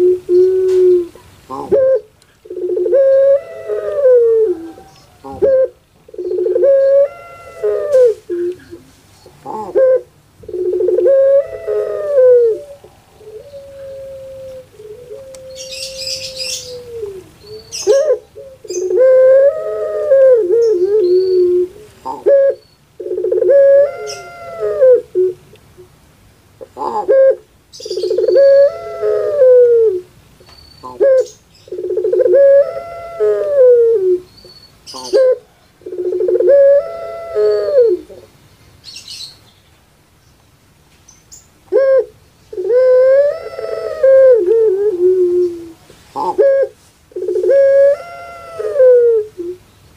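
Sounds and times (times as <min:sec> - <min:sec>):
dove cooing: 0:00.0 - 0:25.9, 0:26.6 - 0:30.1, 0:30.8 - 0:34.3, 0:34.9 - 0:38.4, 0:41.7 - 0:49.6.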